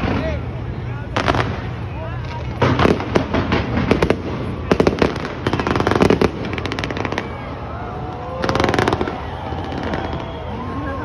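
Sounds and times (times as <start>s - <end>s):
fireworks crackling pops: 1.1s - 10.6s.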